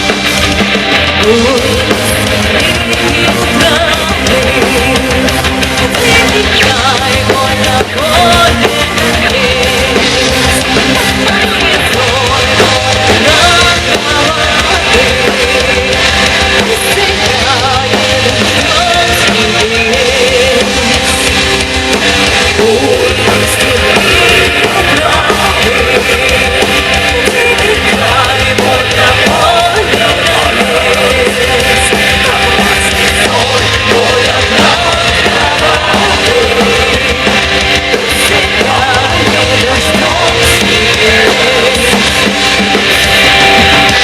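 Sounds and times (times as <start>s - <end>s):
drum kit: 0.0s - 44.0s
live heavy metal music: 0.0s - 44.0s.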